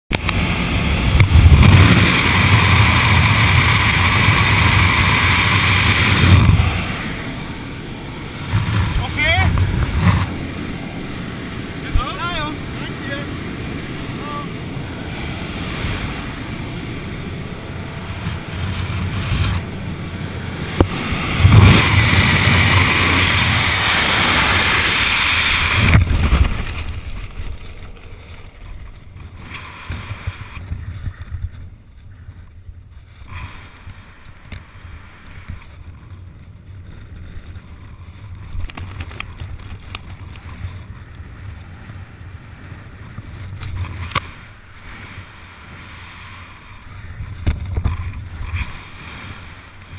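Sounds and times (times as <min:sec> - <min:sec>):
gusty rustle of air: 0:00.1 - 0:49.9
wind rushing over microphone: 0:00.1 - 0:49.9.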